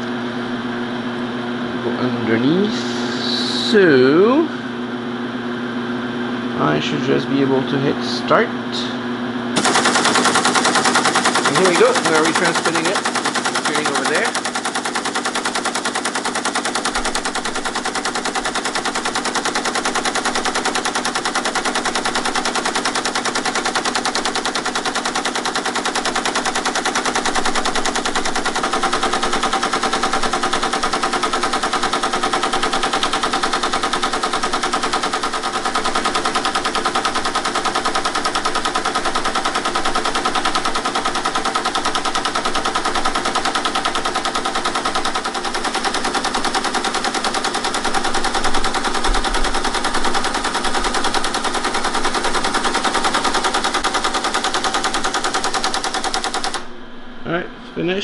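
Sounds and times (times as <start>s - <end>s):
steady hum: 0.0s - 58.0s
teletype rapid mechanical clatter: 9.6s - 56.7s.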